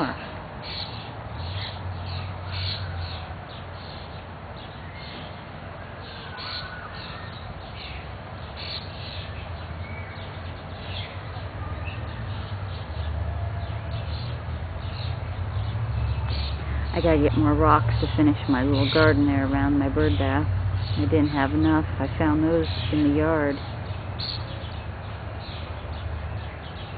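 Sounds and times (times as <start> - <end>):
birds calling: 0.0 - 26.9.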